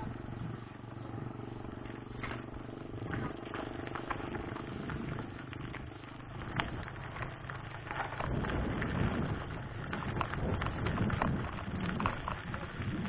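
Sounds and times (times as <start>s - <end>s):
bike tyres crunching on dirt: 0.0s - 13.0s
wind rumble on microphone: 0.0s - 13.0s.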